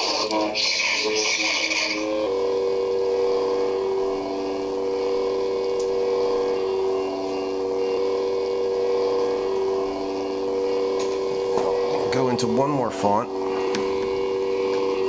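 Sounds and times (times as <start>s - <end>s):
lightsaber hum: 0.0s - 15.0s.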